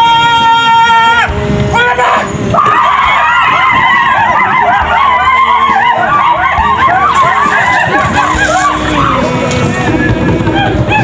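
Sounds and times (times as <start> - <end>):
voices whooping and yelping: 0.0 - 11.0.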